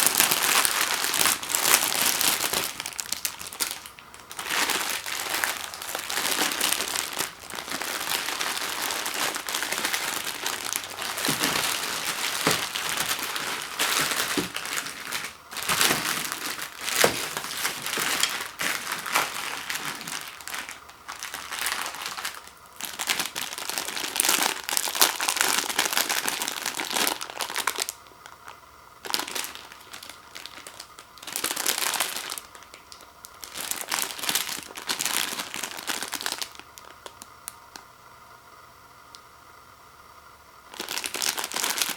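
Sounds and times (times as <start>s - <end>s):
plastic packaging crinkling: 0.0s - 37.8s, 40.7s - 41.9s.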